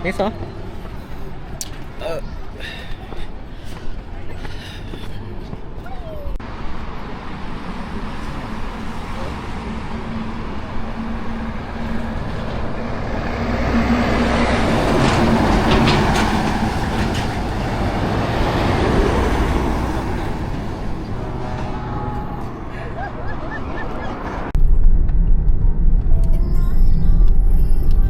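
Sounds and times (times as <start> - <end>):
vehicle engine and road hum: 0.0 - 28.0.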